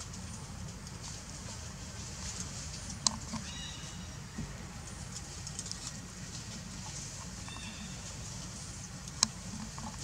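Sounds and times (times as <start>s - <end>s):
rustles in dry leaves: 0.0s - 10.0s.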